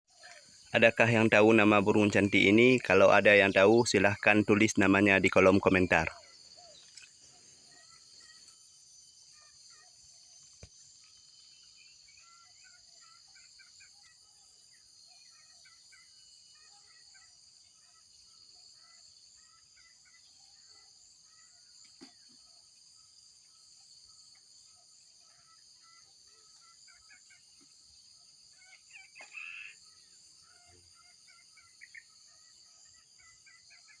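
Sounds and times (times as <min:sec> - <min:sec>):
insect drone: 0:00.1 - 0:34.0
small bird chirps: 0:00.1 - 0:34.0.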